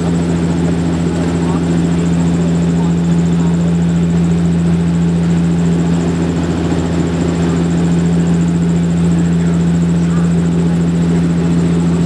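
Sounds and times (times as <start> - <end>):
airliner propeller engine drone: 0.0 - 12.0.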